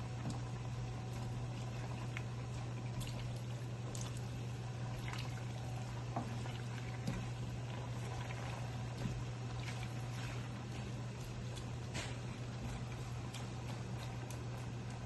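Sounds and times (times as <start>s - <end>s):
broth bubbling in a pan: 0.0s - 15.0s
steady low hum: 0.0s - 15.0s.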